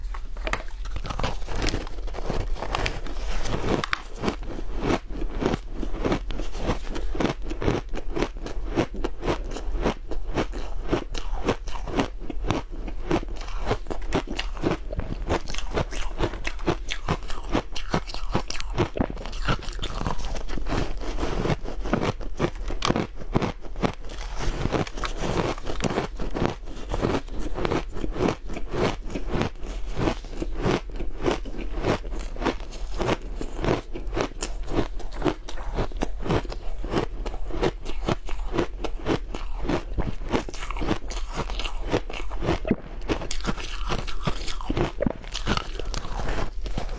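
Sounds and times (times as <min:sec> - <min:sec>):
chewing crunchy ice: 0:00.0 - 0:46.9.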